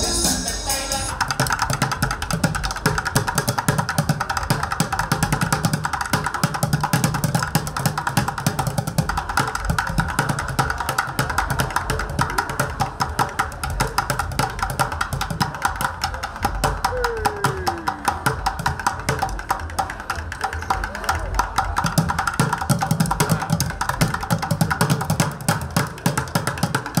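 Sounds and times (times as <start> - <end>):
drumsticks beating plastic buckets: 1.1 - 27.0.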